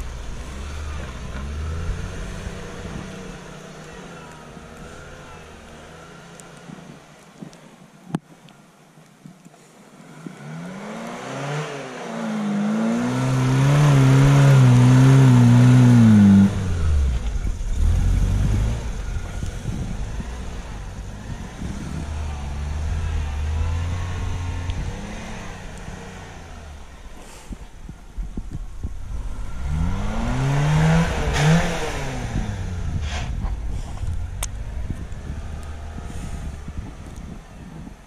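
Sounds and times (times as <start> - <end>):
car engine revving: 0.0 - 6.6, 10.2 - 27.2, 28.8 - 37.4.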